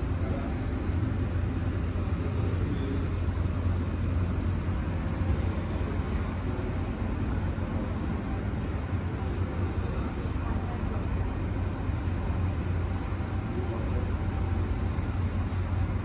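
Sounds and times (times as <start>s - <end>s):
constant low hum: 0.0s - 16.0s
traffic rumble: 0.0s - 16.0s.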